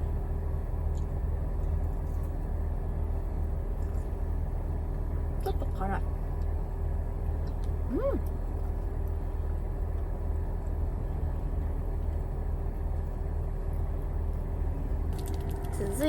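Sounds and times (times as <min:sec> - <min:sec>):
faint steady hum: 0:00.0 - 0:16.0
steady low rumble: 0:00.0 - 0:16.0.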